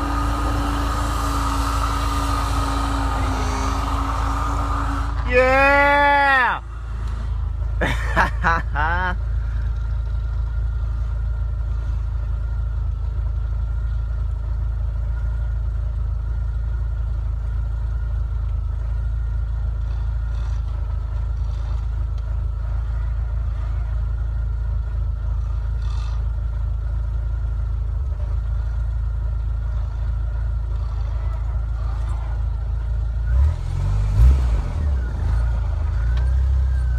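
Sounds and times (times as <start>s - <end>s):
distant engine rumble: 0.0s - 36.9s.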